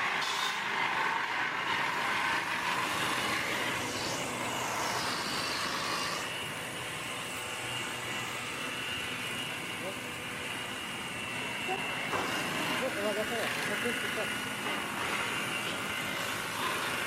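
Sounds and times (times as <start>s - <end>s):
high machine whine: 0.0s - 17.0s
sawmill machinery running: 0.0s - 17.0s.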